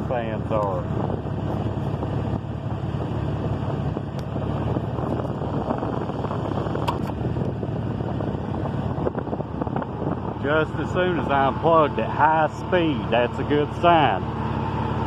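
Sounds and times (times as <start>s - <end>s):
van engine droning: 0.0s - 15.0s.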